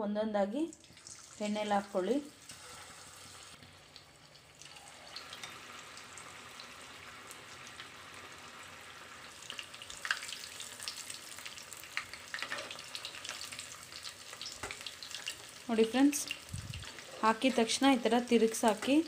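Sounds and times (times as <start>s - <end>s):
food deep-frying in oil: 0.7s - 19.0s.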